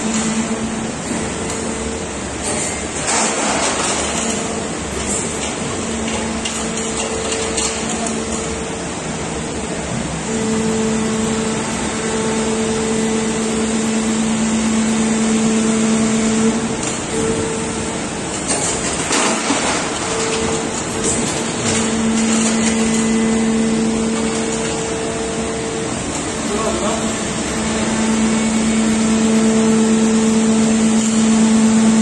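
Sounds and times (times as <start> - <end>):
machine humming: 0.0 - 32.0
machine noise: 0.0 - 32.0.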